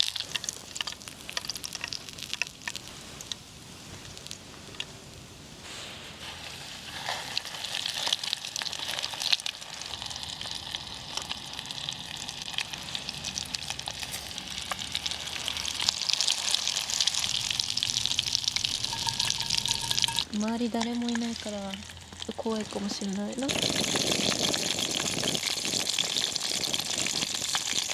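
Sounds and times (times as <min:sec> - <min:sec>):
chicken frying in hot oil: 0:00.0 - 0:27.9.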